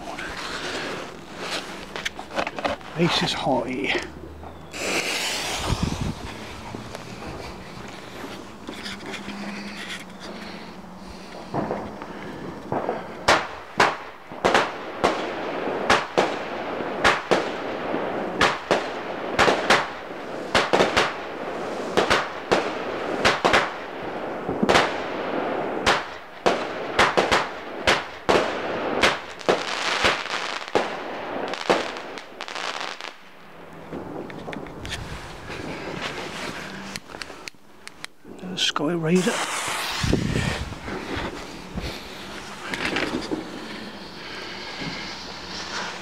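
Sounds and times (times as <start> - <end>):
firework crackling: 0.0 - 46.0
firework bangs: 4.7 - 37.4, 38.6 - 46.0.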